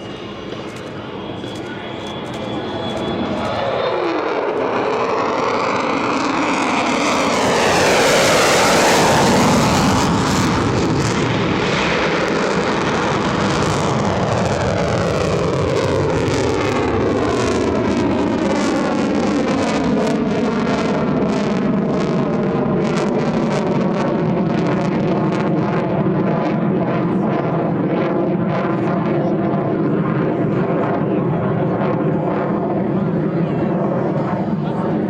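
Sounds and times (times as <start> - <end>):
fighter jet passing: 0.0 - 35.0.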